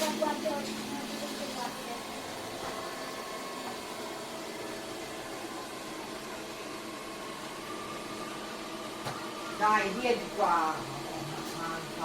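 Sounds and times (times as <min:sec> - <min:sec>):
robot vacuum running: 0:00.0 - 0:12.0.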